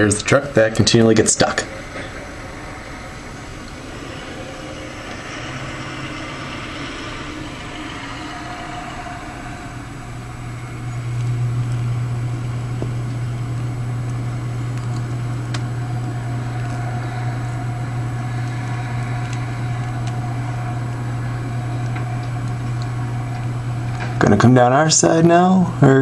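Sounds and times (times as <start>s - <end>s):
heavy truck engine running: 0.9s - 24.4s.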